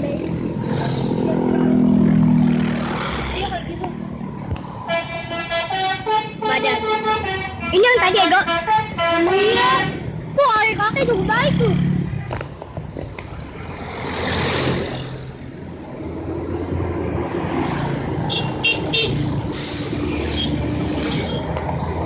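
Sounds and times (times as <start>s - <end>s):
large vehicle engine: 0.0s - 22.0s
road traffic passing: 0.0s - 22.0s.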